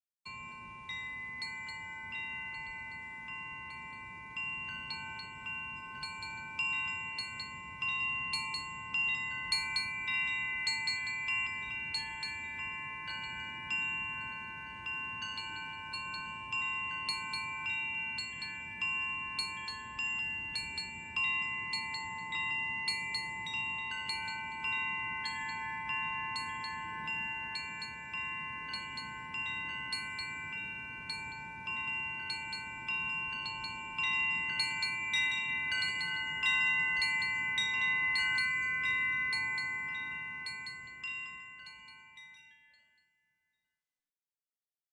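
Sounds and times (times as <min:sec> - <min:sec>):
wind chimes ringing: 0:00.3 - 0:43.2.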